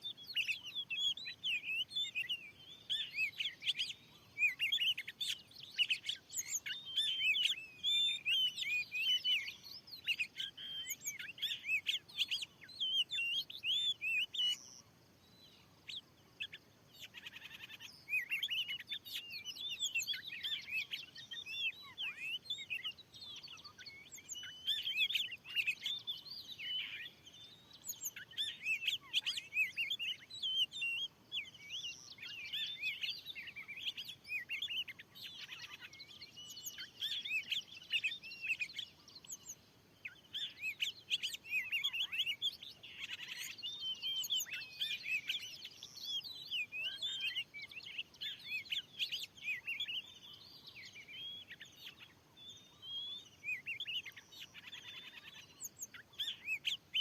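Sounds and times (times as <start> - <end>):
bird singing whistles and warbles: 0.0 - 57.0.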